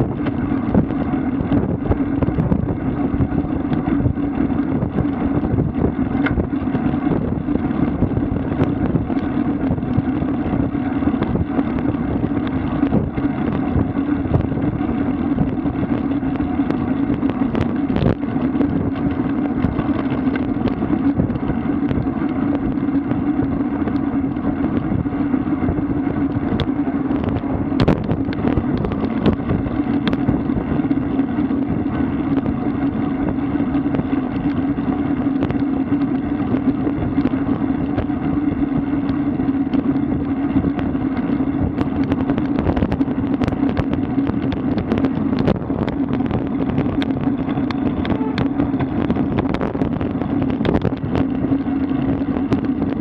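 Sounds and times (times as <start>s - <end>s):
low hum: 0.0s - 53.0s
wind and road noise: 0.0s - 53.0s.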